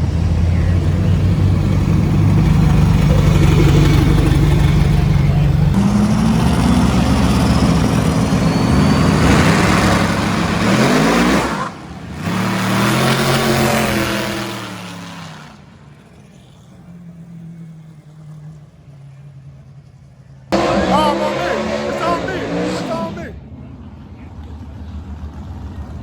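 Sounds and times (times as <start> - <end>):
car engine revving: 0.0 - 23.4.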